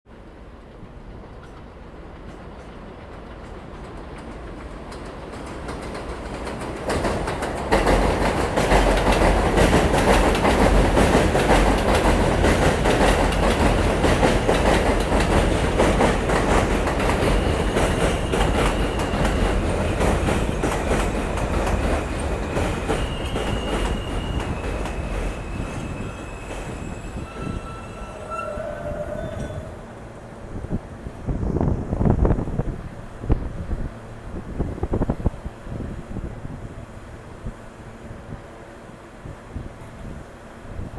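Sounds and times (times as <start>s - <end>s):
subway train rattling past: 0.1s - 40.9s.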